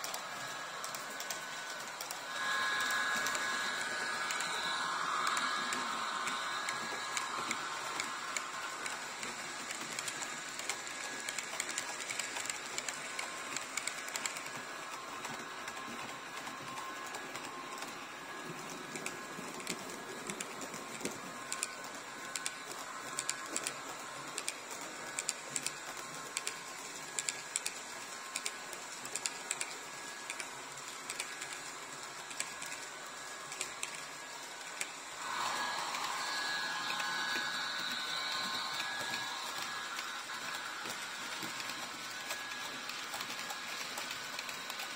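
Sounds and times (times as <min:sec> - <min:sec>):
model train running whirr: 0:00.0 - 0:44.9.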